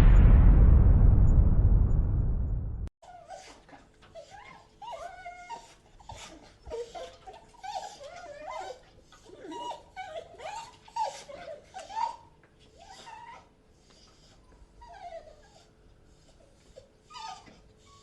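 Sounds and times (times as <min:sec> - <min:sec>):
dog whining: 0:03.1 - 0:18.0.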